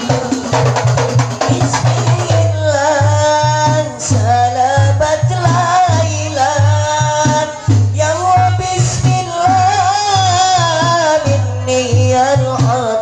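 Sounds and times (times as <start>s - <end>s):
frame drums and bass drum: 0.0s - 13.0s
solo voice singing: 1.3s - 13.0s.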